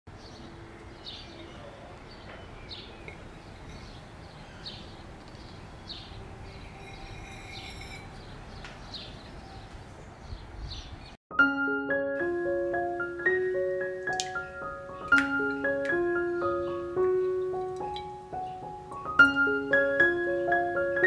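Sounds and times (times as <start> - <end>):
birds chirping: 0.1 - 11.2, 13.2 - 21.0.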